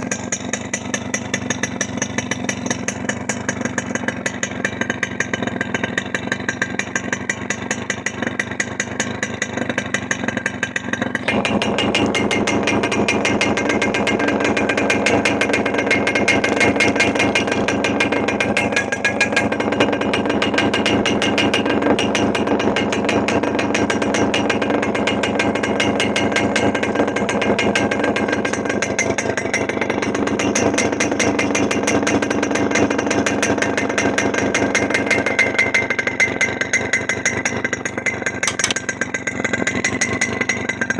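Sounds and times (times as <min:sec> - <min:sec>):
small motorcycle engine running: 0:00.0 - 0:40.9.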